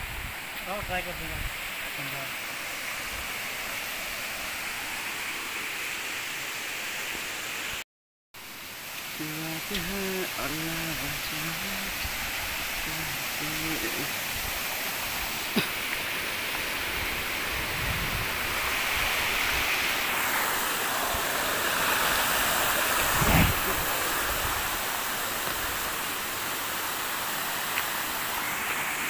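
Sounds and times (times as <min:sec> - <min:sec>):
stream water running over rocks: 0:00.0 - 0:07.8, 0:08.4 - 0:29.0.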